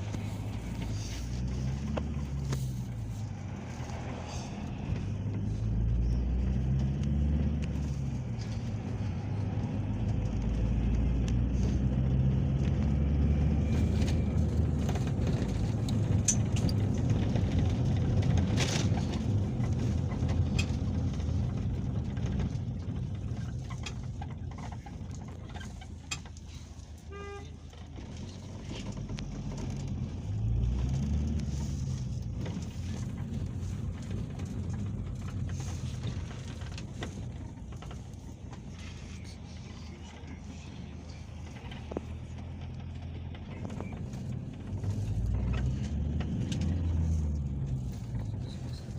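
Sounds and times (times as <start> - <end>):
minibus engine pulling: 0.0 - 48.9
road noise: 0.0 - 48.9.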